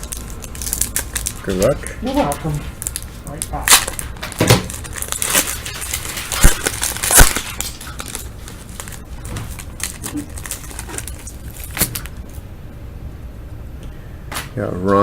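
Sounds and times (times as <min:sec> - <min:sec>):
foil wrapper crinkling and tearing: 0:00.0 - 0:12.4.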